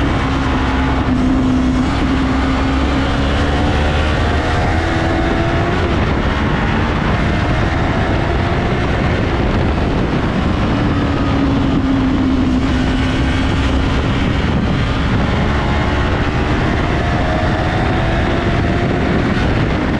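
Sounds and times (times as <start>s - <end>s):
motorcycle engine running hard: 0.0s - 19.9s
wind rush on microphone: 0.0s - 19.9s.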